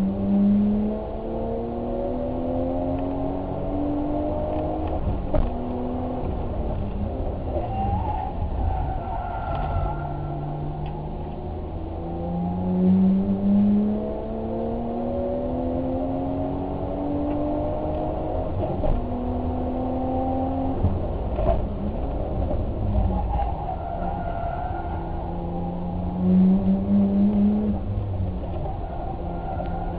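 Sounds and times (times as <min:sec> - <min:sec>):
car engine accelerating: 0:00.0 - 0:29.9
road and wind rumble: 0:00.0 - 0:29.9.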